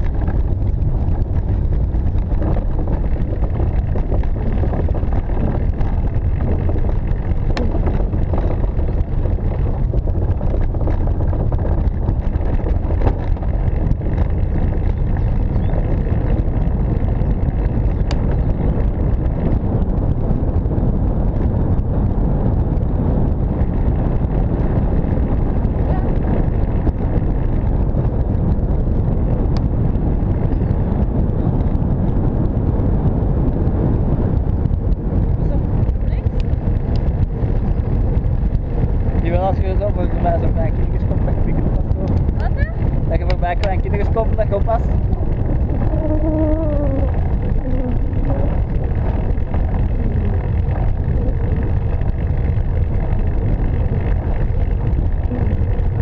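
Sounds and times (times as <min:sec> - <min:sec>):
tyre noise on paved path: 0:00.0 - 0:56.0
wind buffeting microphone: 0:00.0 - 0:56.0.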